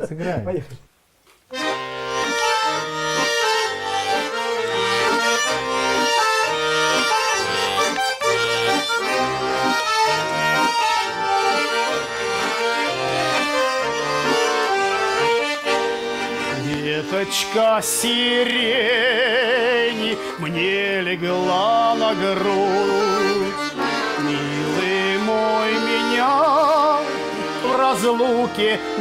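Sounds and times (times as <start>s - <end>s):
accordion playing folk melody: 1.5s - 29.0s.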